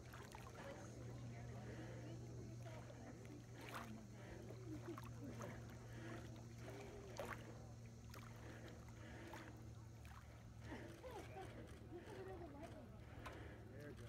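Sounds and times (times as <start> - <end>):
faint distant voices: 0.0 - 14.0
low steady hum: 0.0 - 14.0
small waves lapping: 0.0 - 14.0.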